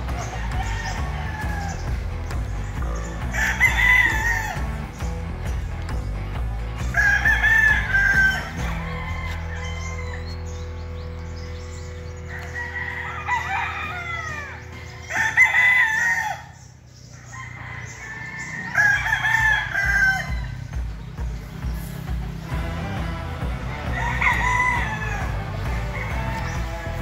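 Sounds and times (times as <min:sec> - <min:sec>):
chickens clucking: 0:00.0 - 0:27.0
roosters crowing: 0:00.0 - 0:27.0.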